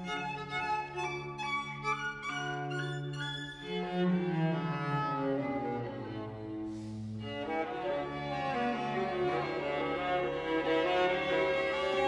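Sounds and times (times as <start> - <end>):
string quintet playing: 0.0 - 12.0.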